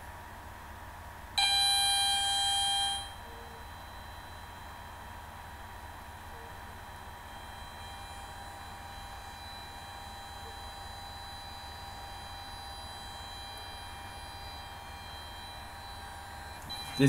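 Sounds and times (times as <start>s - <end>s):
low electrical hum: 0.0s - 17.0s
high-pitched whines: 1.4s - 17.0s.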